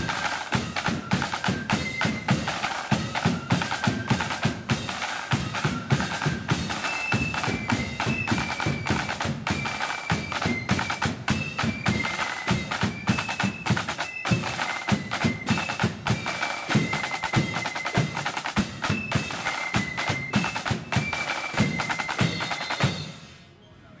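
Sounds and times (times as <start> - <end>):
flute melody: 0.0 - 23.4
side drums rolling rhythm: 0.0 - 23.4.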